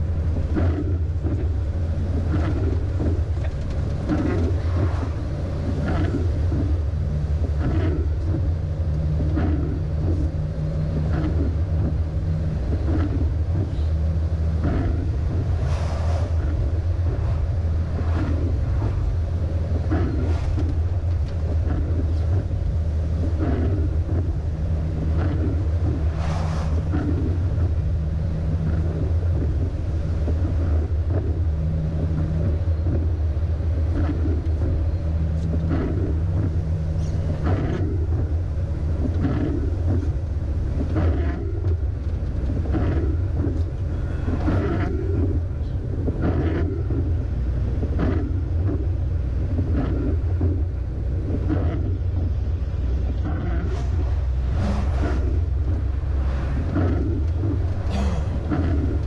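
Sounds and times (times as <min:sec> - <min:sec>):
diesel truck engine running: 0:00.0 - 0:59.0
road and tyre noise on wet road: 0:00.0 - 0:59.0.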